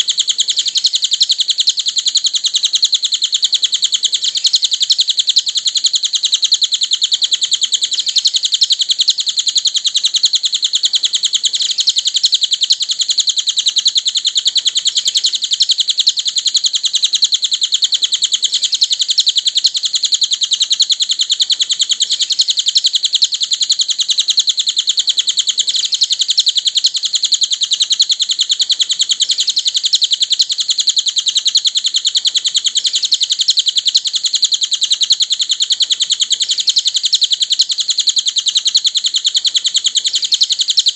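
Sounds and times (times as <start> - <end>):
high-pitched bird twittering: 0.0 - 40.9.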